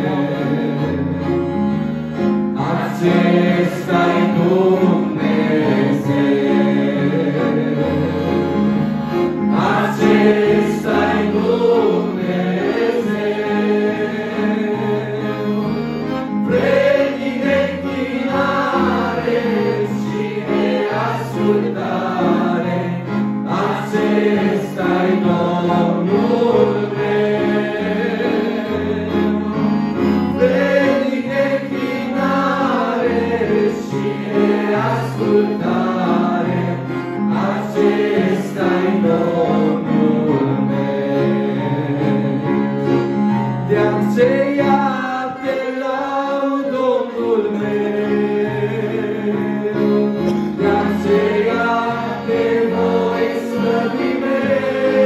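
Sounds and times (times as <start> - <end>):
vocal group singing worship song: 0.0 - 1.2, 2.5 - 55.0
electronic keyboard chords: 0.0 - 45.1.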